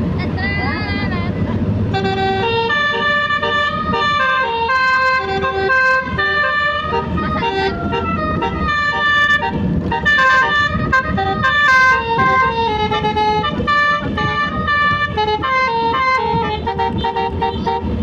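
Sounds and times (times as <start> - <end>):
musical vehicle horn melody: 1.9 - 18.0.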